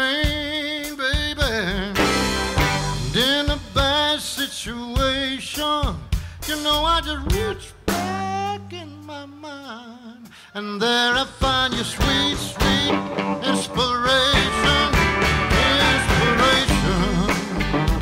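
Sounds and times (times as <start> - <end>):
man singing: 0.0 - 2.3, 2.9 - 18.0
live band with acoustic guitar: 0.0 - 9.0, 9.6 - 18.0.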